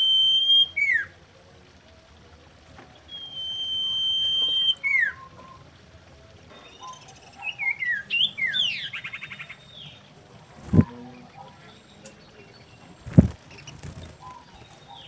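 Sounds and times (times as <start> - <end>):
bird whistling and chirping: 0.0 - 1.2, 2.9 - 10.1, 10.7 - 15.0.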